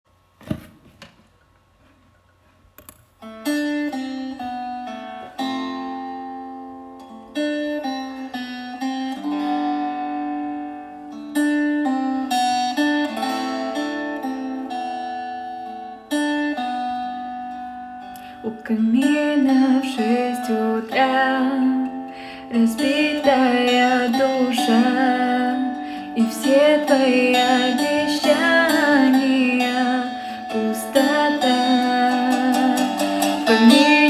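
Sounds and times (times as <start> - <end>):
acoustic guitar chords: 3.2 - 34.0.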